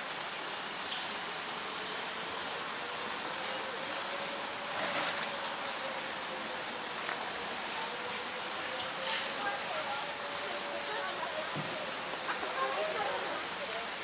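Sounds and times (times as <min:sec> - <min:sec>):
rustle: 0:00.0 - 0:14.0.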